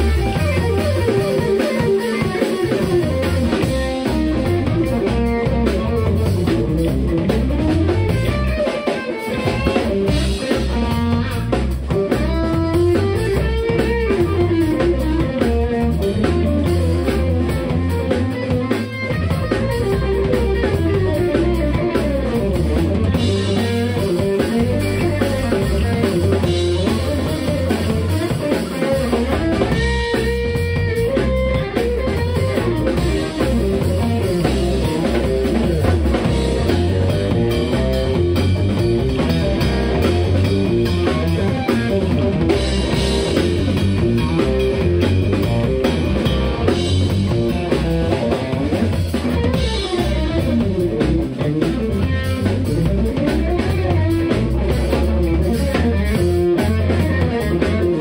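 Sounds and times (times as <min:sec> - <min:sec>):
drum kit: 0:00.0 - 0:58.0
electric bass: 0:00.0 - 0:58.0
lead electric guitar melody: 0:00.0 - 0:58.0.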